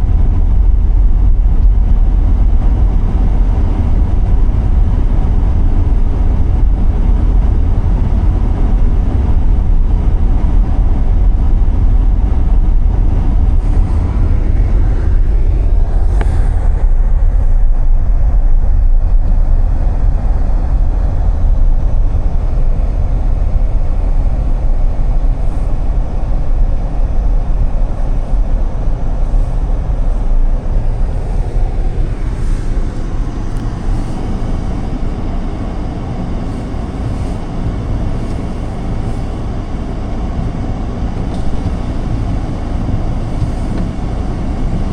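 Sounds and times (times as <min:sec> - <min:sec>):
car driving on snowy road: 0:00.0 - 0:44.9.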